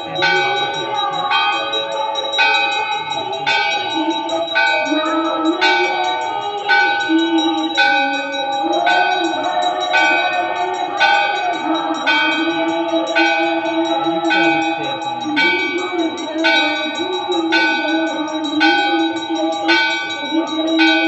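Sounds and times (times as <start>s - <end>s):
temple bell ringing: 0.0s - 21.0s
voices chanting: 0.0s - 21.0s.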